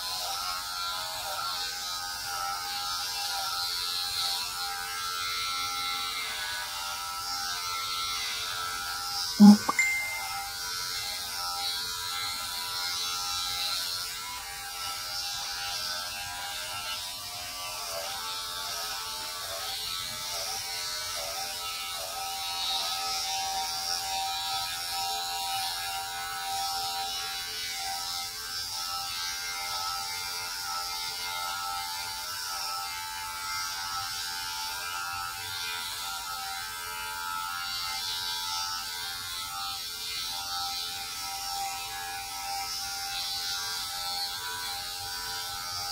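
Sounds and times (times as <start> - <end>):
electric hair clippers humming: 0.1 - 9.6, 12.4 - 45.9.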